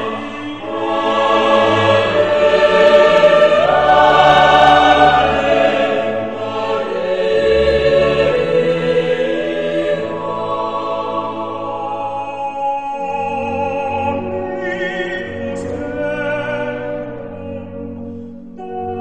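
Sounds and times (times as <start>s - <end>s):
choir singing slow sacred piece: 0.0s - 19.0s.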